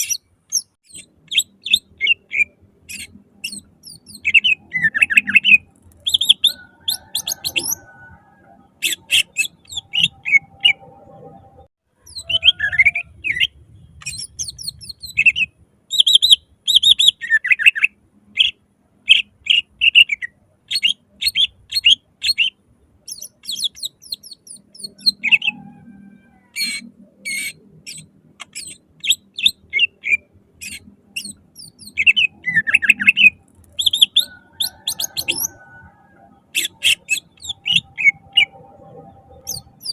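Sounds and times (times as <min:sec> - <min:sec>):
bird singing loudly: 0:00.0 - 0:11.0, 0:12.0 - 0:38.7, 0:39.3 - 0:39.9.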